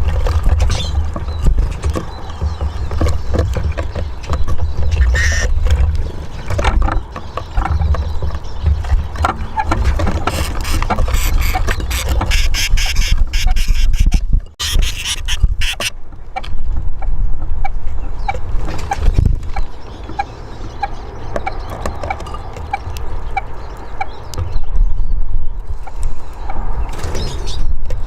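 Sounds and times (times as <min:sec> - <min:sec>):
beaks and feet tapping on wood: 0:00.0 - 0:16.6, 0:18.2 - 0:24.6.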